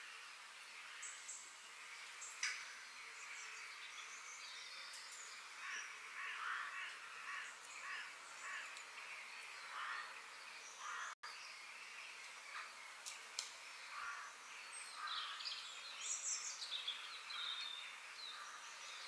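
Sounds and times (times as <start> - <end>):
forest birds chirping: 0.0 - 19.0.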